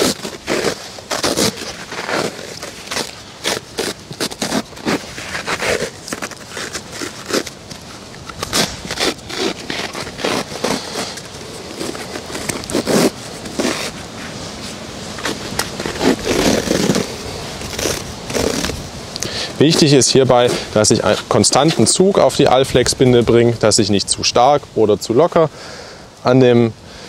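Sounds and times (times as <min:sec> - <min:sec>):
bandage crackling as unrolled: 0:00.0 - 0:21.9.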